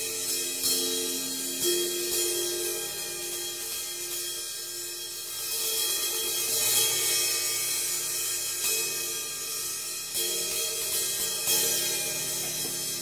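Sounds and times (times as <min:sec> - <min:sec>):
crash cymbal struck with drumstick: 0:00.0 - 0:13.0.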